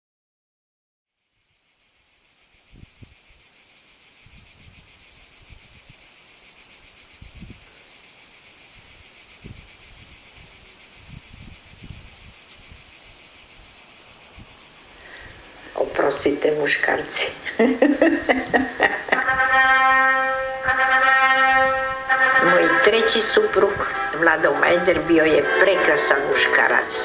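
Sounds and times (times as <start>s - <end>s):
chirping insects trill: 1.1s - 27.0s.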